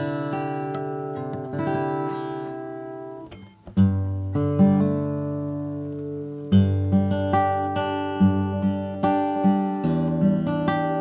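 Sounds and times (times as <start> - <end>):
acoustic guitar notes and chords: 0.0 - 11.0.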